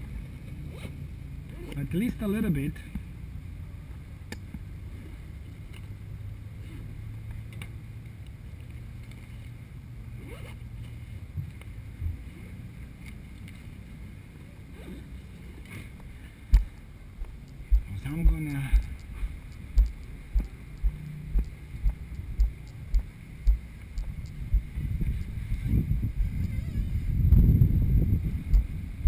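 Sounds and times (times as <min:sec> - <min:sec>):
wind and handling rumble: 0:00.0 - 0:29.0.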